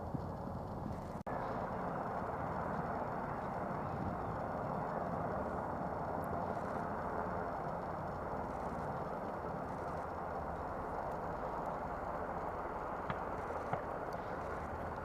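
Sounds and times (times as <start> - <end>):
helicopter rotor and turbine noise: 0.0 - 15.0.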